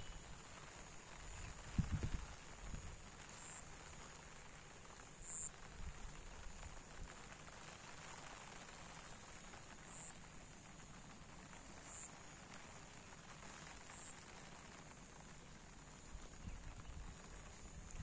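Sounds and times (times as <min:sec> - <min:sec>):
soft steady hiss: 0:00.0 - 0:18.0.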